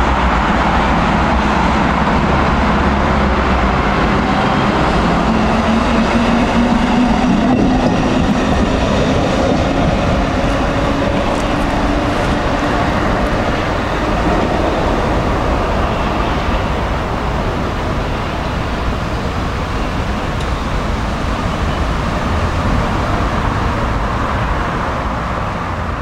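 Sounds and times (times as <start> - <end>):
road and rail rumble: 0.0 - 26.0
tram motor hum: 0.0 - 26.0
tram wheel noise: 0.0 - 26.0.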